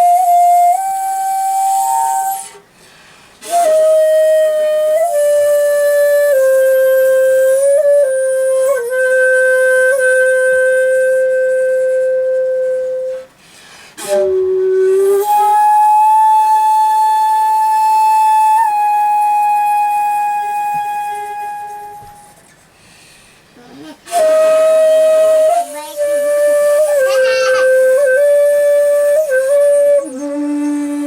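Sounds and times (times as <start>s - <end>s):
shakuhachi flute long notes: 0.0s - 2.8s, 3.4s - 22.6s, 23.6s - 31.0s.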